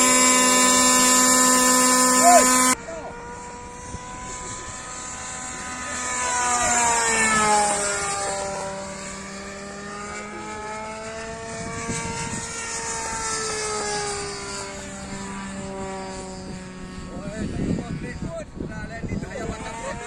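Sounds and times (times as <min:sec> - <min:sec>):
model airplane motor whining: 0:00.0 - 0:20.0.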